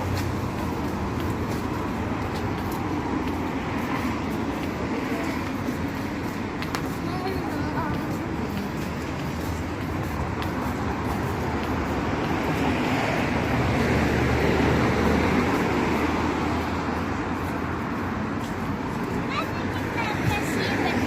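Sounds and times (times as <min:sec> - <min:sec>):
road traffic rush: 0:00.0 - 0:21.0
vehicle passing: 0:00.0 - 0:21.0.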